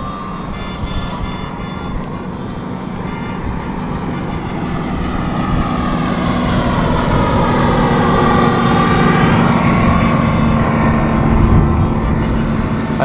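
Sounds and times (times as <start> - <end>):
outboard engine drone: 0.0 - 13.0.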